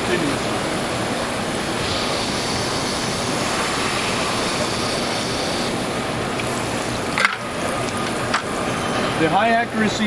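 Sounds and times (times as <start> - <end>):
coolant rushing over grinding wheel: 0.0 - 10.0
high hiss: 0.0 - 10.0.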